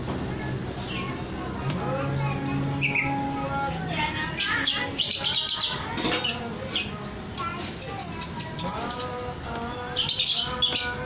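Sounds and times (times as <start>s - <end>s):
small birds chirping: 0.0s - 3.3s, 4.2s - 11.0s.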